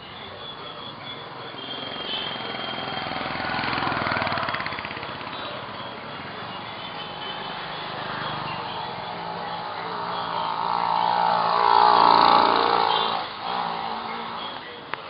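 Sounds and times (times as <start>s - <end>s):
small engine running: 0.6s - 14.9s.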